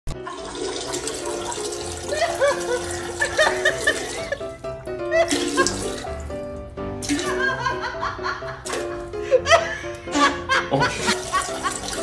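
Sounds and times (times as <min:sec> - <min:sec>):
background music with held notes: 0:00.1 - 0:12.0.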